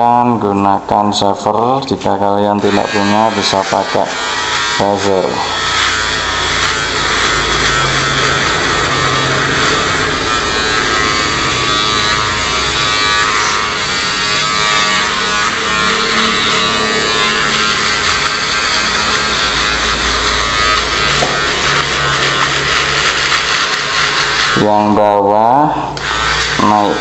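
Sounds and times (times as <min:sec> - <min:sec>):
electric shaver buzzing: 0:01.5 - 0:27.0.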